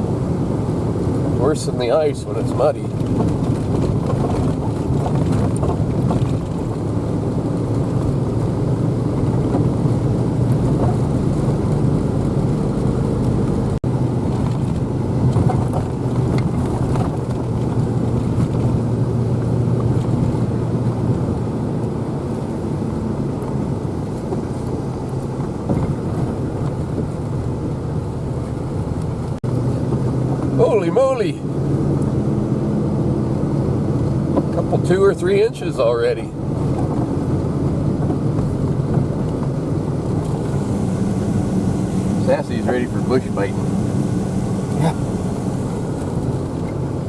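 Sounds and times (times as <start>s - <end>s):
tyres on wet muddy road: 0.0s - 47.0s
vehicle engine running: 0.0s - 47.0s.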